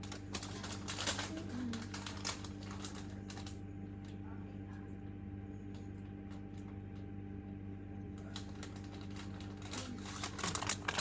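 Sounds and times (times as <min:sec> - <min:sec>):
clicks and crinkly rustling: 0:00.0 - 0:04.9, 0:05.6 - 0:11.0
steady low hum: 0:00.0 - 0:11.0.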